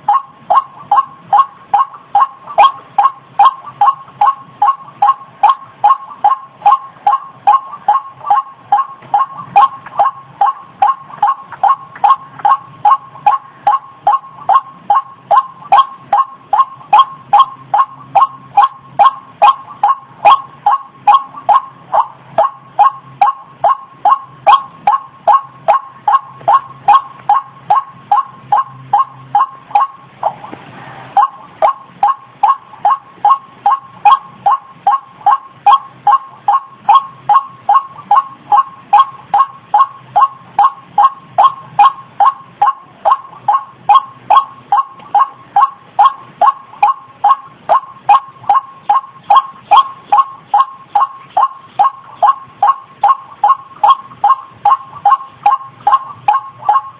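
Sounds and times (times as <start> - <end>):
waterhen calling: 0.0 - 56.9.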